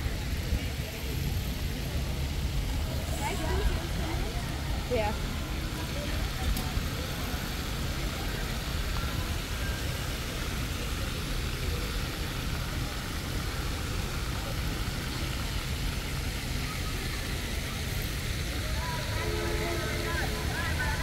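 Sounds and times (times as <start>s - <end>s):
fountain jets spraying: 0.0s - 21.0s
low rumble of traffic: 0.0s - 21.0s.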